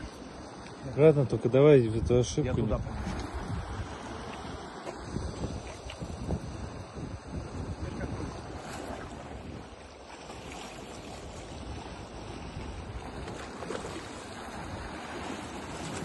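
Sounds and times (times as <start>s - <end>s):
sea washing against rocks: 0.0s - 16.0s
wind on the microphone: 0.0s - 16.0s.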